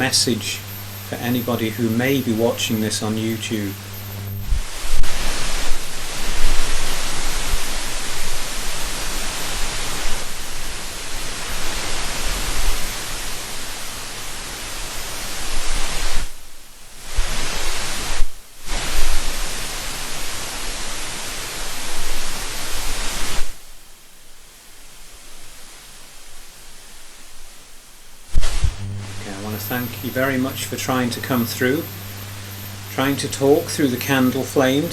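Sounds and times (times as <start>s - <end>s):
low electrical hum: 0.0s - 34.9s
steady hiss: 0.0s - 34.9s.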